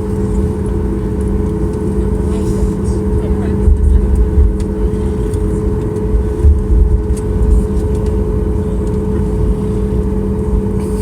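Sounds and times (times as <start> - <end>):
jet engine cabin hum: 0.0 - 11.0
low rumble: 0.0 - 11.0.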